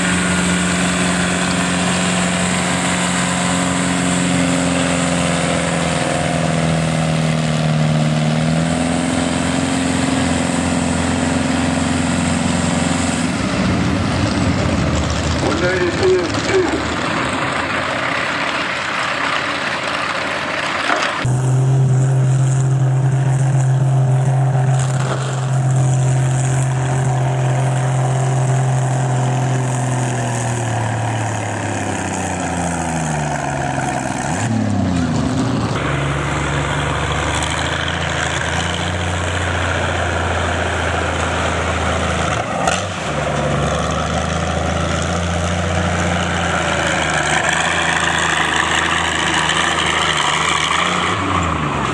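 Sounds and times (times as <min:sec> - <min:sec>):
second engine low pitch: 0:00.0 - 0:51.9
tractor engine running: 0:00.0 - 0:51.9.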